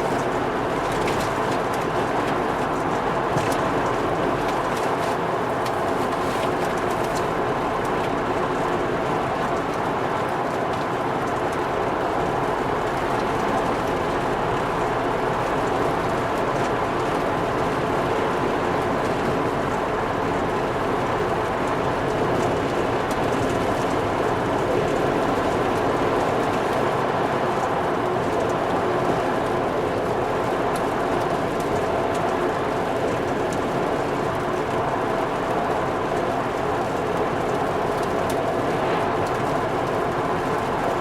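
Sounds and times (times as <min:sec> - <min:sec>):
tyre and road noise: 0:00.0 - 0:41.0.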